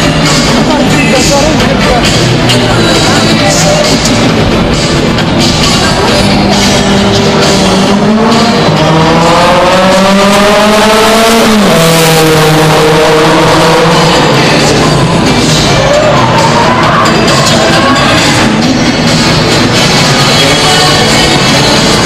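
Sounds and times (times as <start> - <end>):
music playing: 0.0 - 22.0
rally car engine revving: 0.0 - 22.0.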